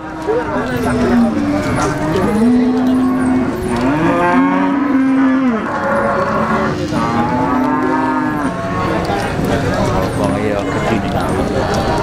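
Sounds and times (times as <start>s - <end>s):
cattle mooing: 0.0s - 11.8s.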